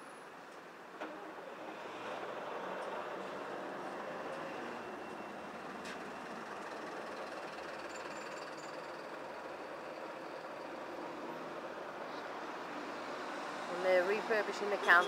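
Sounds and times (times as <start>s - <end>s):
street traffic: 0.0s - 15.0s
diesel buses droning: 1.0s - 15.0s.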